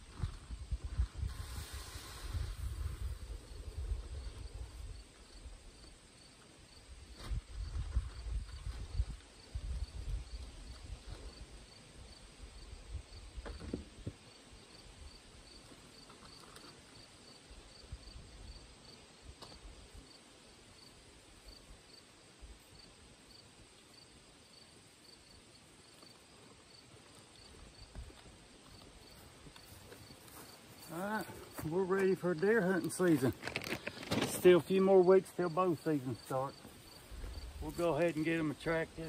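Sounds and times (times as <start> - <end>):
insect chirping: 0.0 - 39.0.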